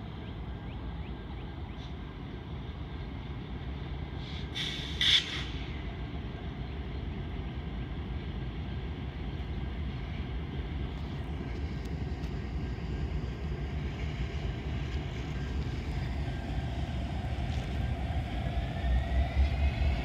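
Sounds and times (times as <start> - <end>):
freight train low rumble: 0.0 - 20.0.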